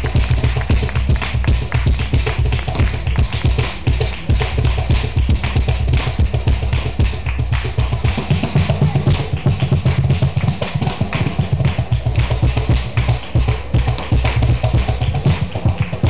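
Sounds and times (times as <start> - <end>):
cajon flamenco rhythm: 0.0 - 16.0.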